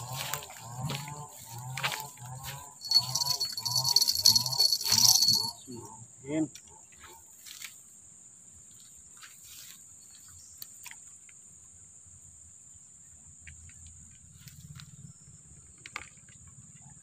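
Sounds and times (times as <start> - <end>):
insects chirring: 0.0 - 16.4.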